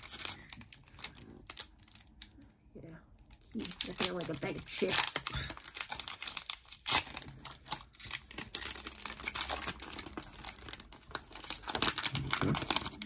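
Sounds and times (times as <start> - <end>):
foil wrapper crinkling and tearing: 0.0 - 2.5, 3.2 - 13.0.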